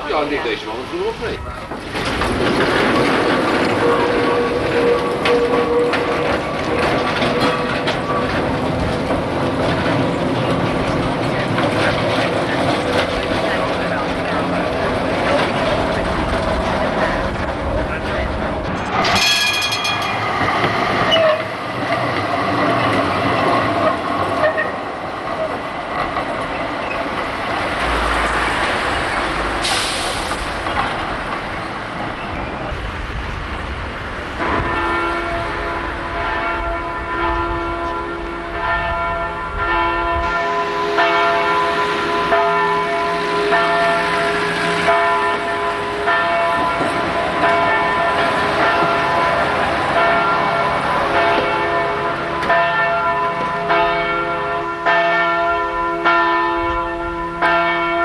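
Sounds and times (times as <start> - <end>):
tram passing in traffic: 0.0 - 58.0.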